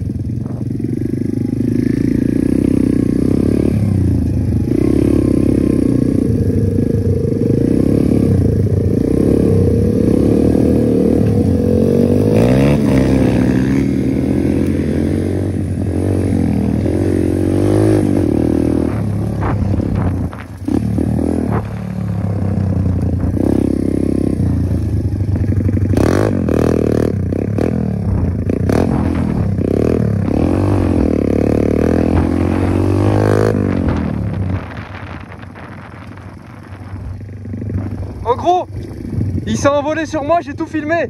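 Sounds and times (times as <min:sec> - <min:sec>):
dirt bike engine revving: 0:00.0 - 0:39.8.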